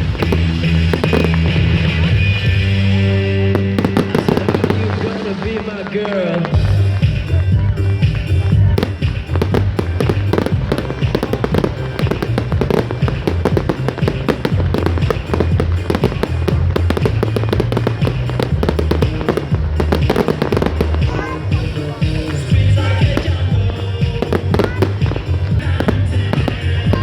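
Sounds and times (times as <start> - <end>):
fireworks crackling and banging: 0.0 - 27.0
music with heavy bass: 0.0 - 27.0.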